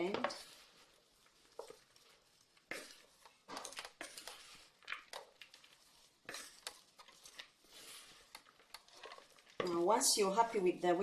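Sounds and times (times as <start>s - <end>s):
vegetables tossed in a bowl: 0.0s - 10.8s.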